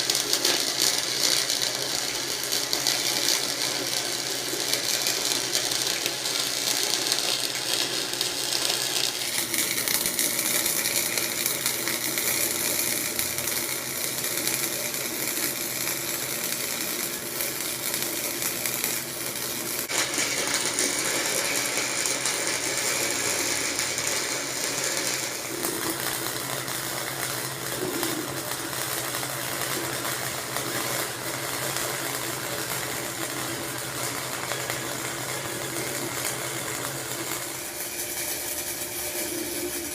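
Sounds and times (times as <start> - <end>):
welder arc crackling: 0.0 - 39.9.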